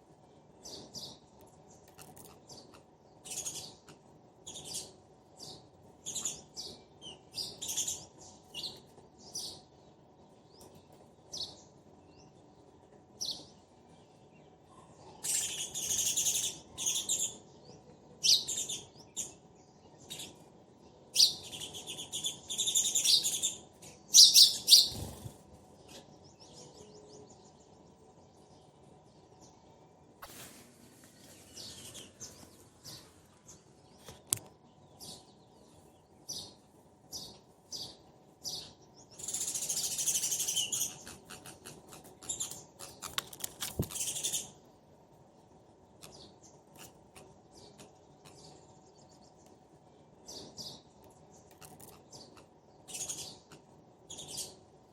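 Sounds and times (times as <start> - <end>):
sparrows chirping: 0.0 - 30.2, 31.1 - 54.9.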